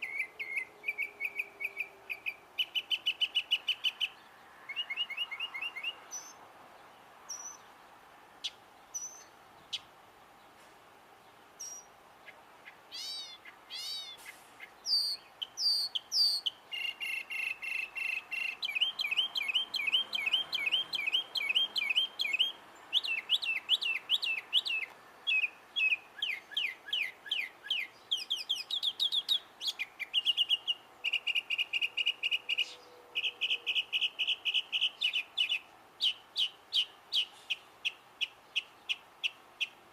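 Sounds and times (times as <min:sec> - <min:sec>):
bird singing: 0:00.0 - 0:07.7, 0:08.4 - 0:09.9, 0:11.6 - 0:39.8.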